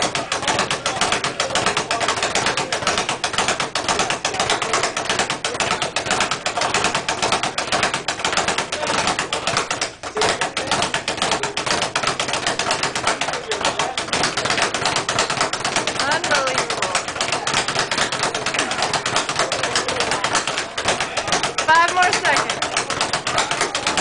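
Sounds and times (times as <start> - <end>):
speed bag punched rapidly: 0.0 - 24.0.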